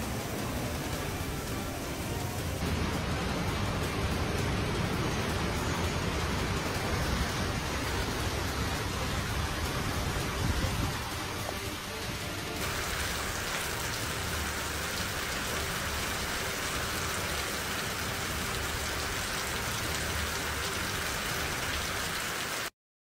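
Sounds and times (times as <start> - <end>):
rain falling on standing water: 0.0 - 22.7.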